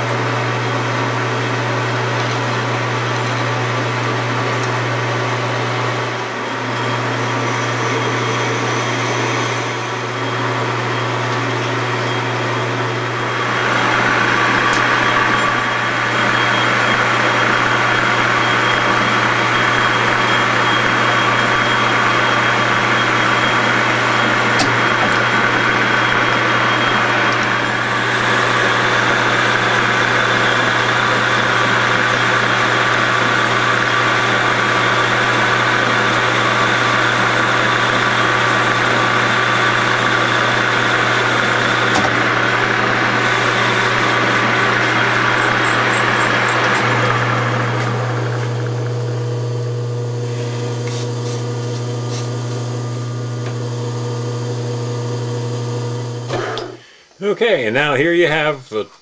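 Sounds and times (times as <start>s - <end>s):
metal lathe motor drone: 0.0s - 56.8s.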